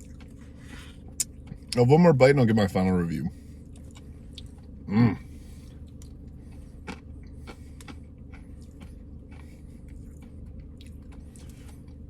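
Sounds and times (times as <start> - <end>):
chewing crunchy ice cream: 0.0 - 12.0
steady low hum: 0.0 - 12.0.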